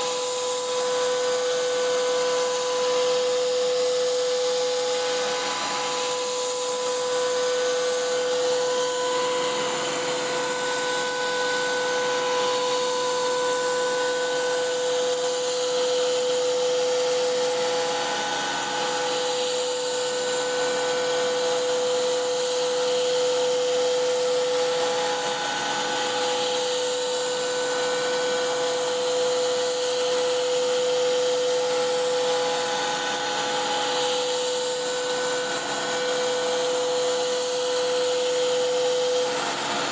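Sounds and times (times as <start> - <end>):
cnc router cutting whine: 0.0 - 39.9.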